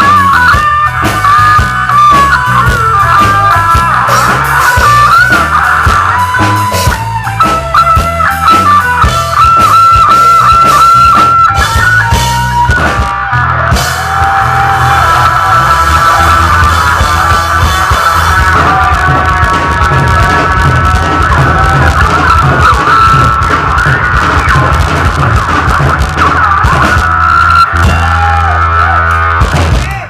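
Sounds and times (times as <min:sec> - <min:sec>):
bass guitar: 0:00.0 - 0:30.0
drums: 0:00.0 - 0:30.0
electric guitar lead line: 0:00.0 - 0:30.0.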